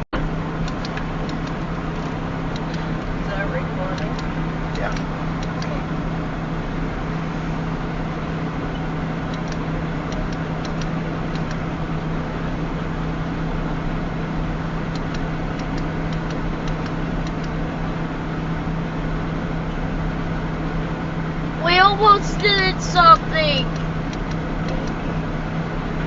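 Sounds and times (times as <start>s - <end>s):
vehicle rumbling hum: 0.0s - 26.0s.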